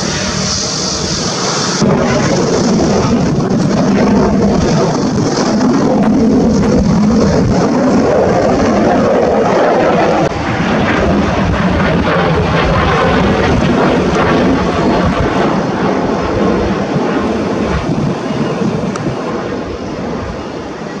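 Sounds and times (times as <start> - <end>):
aircraft engine rushing: 0.0 - 21.0.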